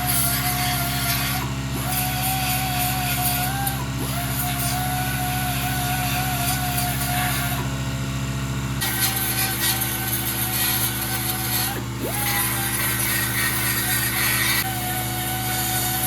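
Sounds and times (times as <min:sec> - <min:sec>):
sander grinding metal: 0:00.0 - 0:16.0.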